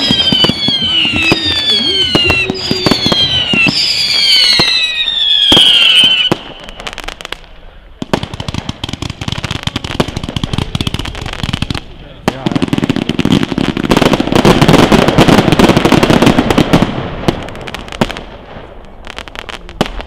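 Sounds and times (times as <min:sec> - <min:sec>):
fireworks bangs: 0:00.0 - 0:20.0
fireworks crackling pops: 0:00.0 - 0:20.0
fireworks whistling: 0:00.0 - 0:20.0.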